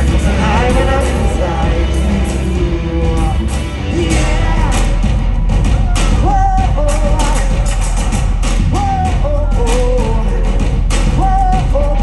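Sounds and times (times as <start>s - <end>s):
drum hits: 0.0s - 12.0s
heavy bass beat: 0.0s - 12.0s
loud rock music: 0.0s - 12.0s.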